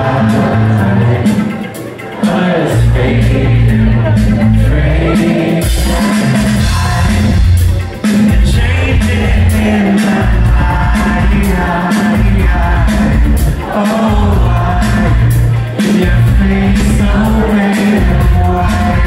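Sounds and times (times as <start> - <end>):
live rock band: 0.0 - 19.0
person singing: 0.0 - 19.0.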